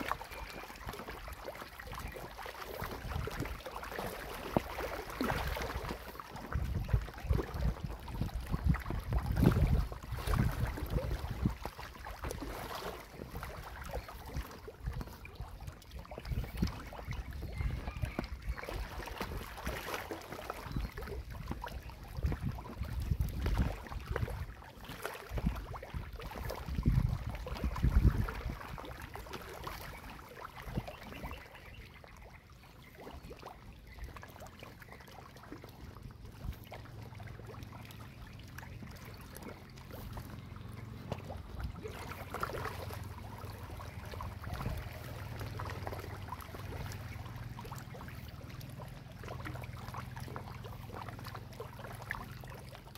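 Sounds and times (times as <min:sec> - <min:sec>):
water splashing and slapping: 0:00.0 - 0:52.9
fish gulping at water surface: 0:00.1 - 0:31.3, 0:35.7 - 0:52.9.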